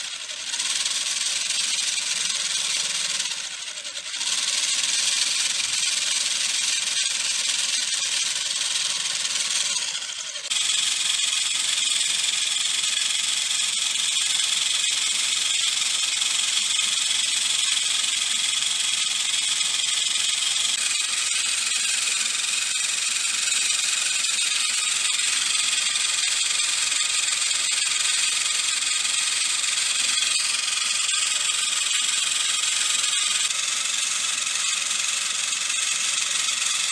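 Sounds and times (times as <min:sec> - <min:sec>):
small motor whining: 0:00.0 - 0:36.9.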